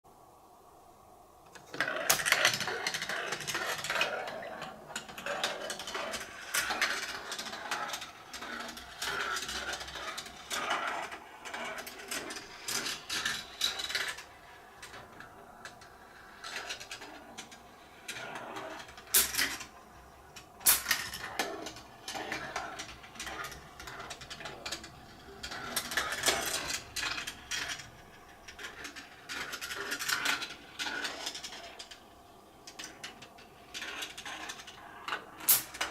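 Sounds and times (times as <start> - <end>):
marbles rattling through plastic track: 1.6 - 35.9.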